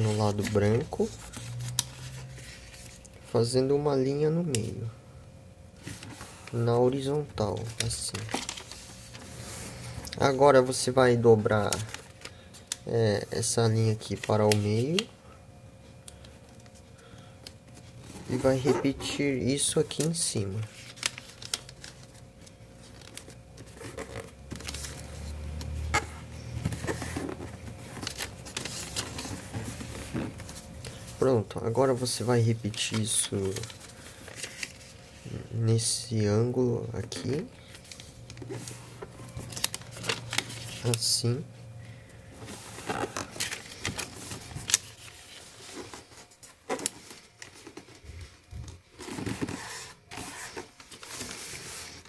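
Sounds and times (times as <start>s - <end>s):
paper rustling and crinkling: 0.0s - 3.2s, 5.8s - 15.1s, 16.4s - 35.4s, 37.0s - 41.2s, 42.0s - 52.0s.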